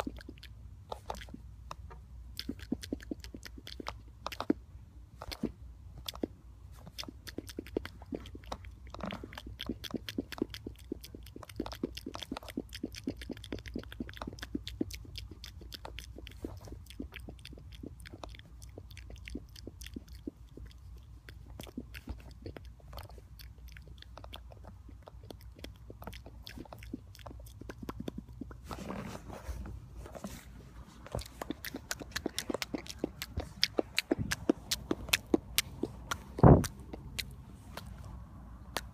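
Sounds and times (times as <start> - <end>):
wet mouth clicks and smacks: 0.0 - 4.6, 5.2 - 28.6, 31.0 - 38.1
breathy mouth noise: 5.2 - 38.9.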